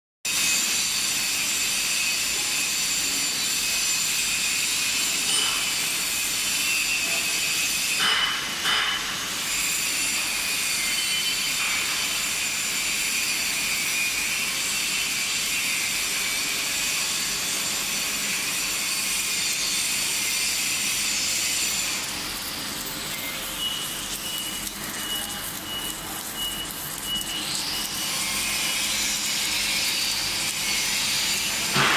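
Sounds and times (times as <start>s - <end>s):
welding equipment hissing: 0.3s - 31.9s.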